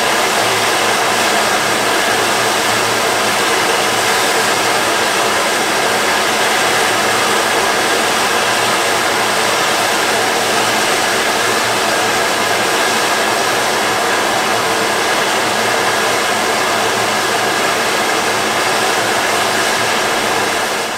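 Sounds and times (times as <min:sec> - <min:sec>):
steam locomotive hissing: 0:00.0 - 0:20.9.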